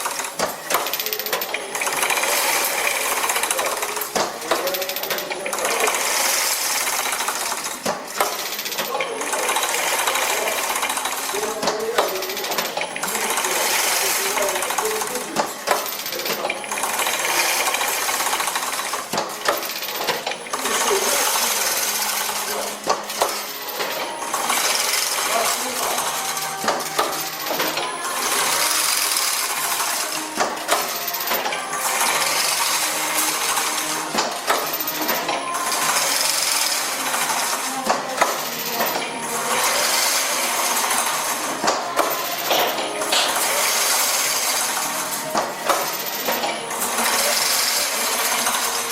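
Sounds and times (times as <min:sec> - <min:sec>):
mesh machine clattering: 0:00.0 - 0:48.9.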